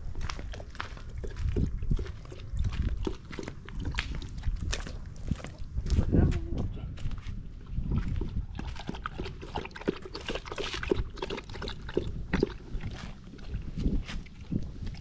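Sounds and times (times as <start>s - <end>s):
dog lapping water from metal bucket: 0.4s - 5.5s, 7.8s - 15.0s.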